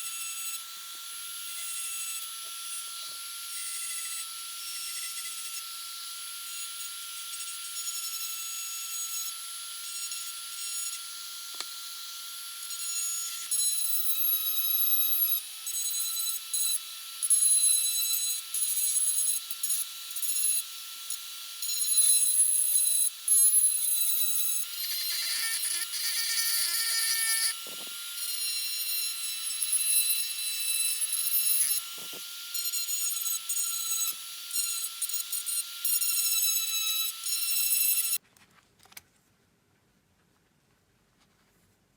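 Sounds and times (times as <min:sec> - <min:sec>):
power tool whining: 0:00.0 - 0:38.2.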